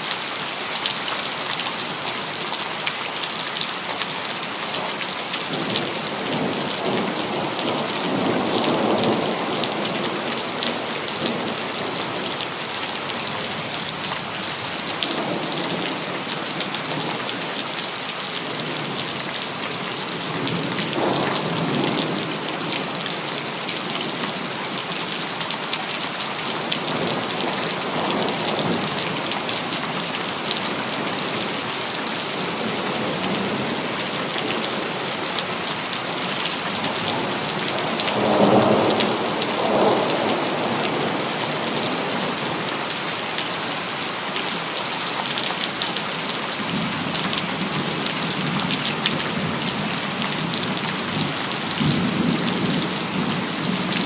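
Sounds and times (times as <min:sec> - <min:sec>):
rain on hard surfaces: 0:00.0 - 0:54.0.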